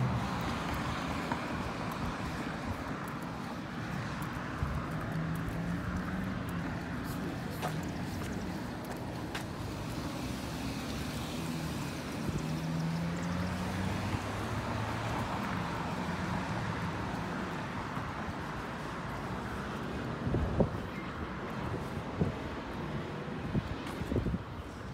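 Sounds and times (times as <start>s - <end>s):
cars driving by: 0.0s - 24.9s.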